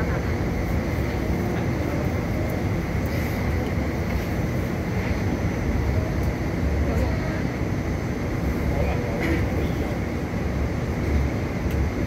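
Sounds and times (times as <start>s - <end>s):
train car rumble and hum: 0.0s - 12.0s.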